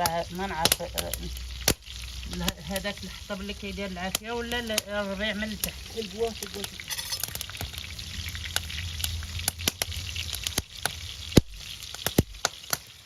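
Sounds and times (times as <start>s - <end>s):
sharp pops from burning wood: 0.0s - 2.9s, 4.1s - 4.9s, 5.5s - 13.0s
wood fire crackling: 0.0s - 13.0s.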